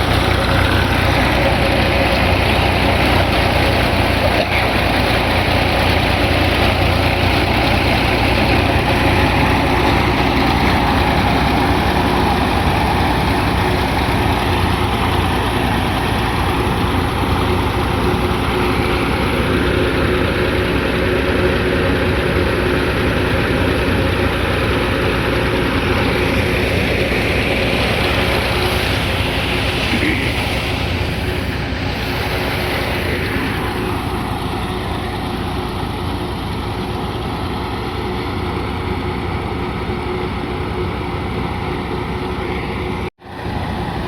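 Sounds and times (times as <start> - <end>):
tractor engine and thresher running: 0.0 - 44.0.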